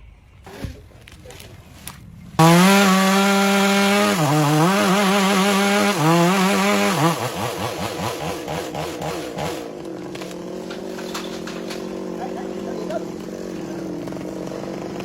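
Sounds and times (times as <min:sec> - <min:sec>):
chainsaw running at high revs: 0:02.1 - 0:15.0.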